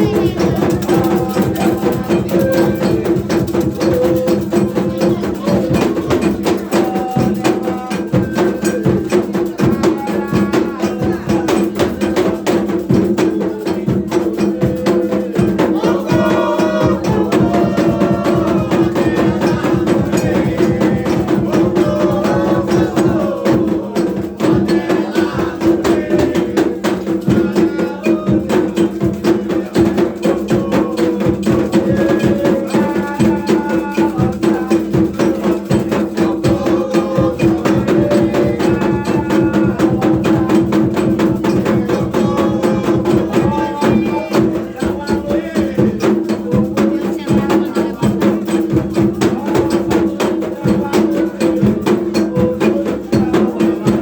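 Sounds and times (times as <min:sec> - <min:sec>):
hand drums playing fast rhythm: 0:00.0 - 0:54.0
voices singing: 0:00.0 - 0:54.0.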